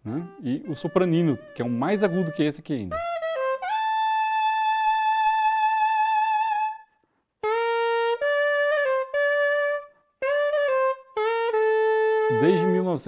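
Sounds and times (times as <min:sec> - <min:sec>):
soprano saxophone: 0:00.0 - 0:13.0.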